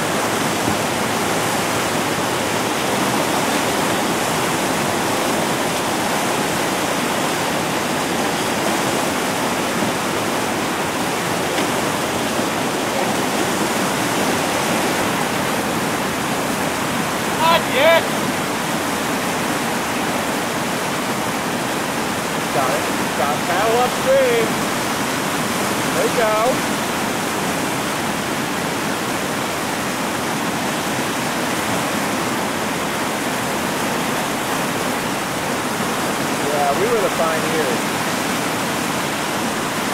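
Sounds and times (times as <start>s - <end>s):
whitewater rapids rushing: 0.0s - 39.9s.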